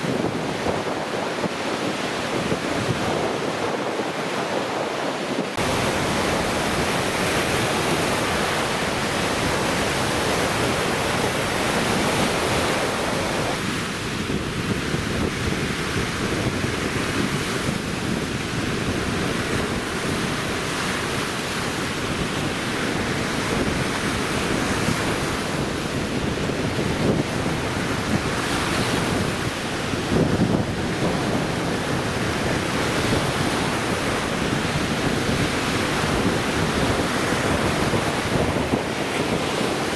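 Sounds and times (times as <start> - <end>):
waves breaking on shore: 0.0 - 39.9
wind gusting on microphone: 0.0 - 39.9.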